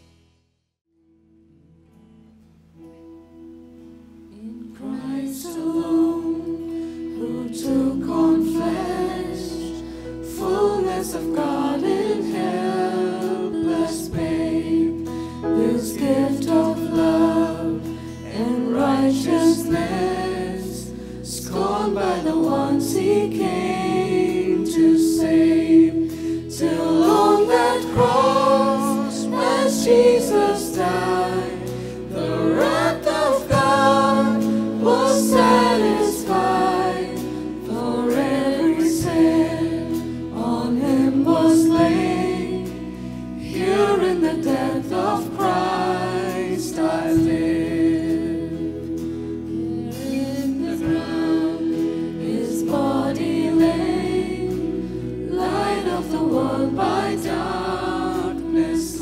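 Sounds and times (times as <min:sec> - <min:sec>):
group of voices singing: 0:04.4 - 0:59.0
instrumental accompaniment: 0:06.7 - 0:59.0.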